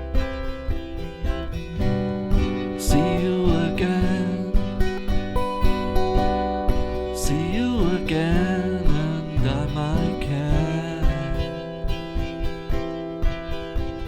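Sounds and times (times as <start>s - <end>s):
acoustic guitar strumming: 0.0s - 14.0s
bending lead guitar melody: 0.0s - 14.0s.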